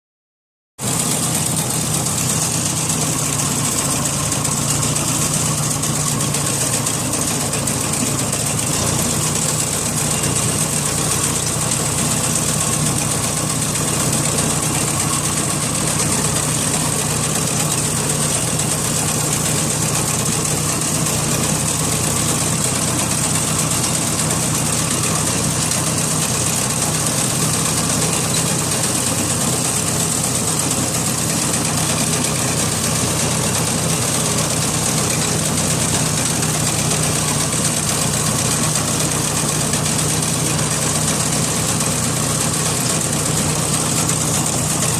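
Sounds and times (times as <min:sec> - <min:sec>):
tractor diesel engine running: 0:00.8 - 0:44.9.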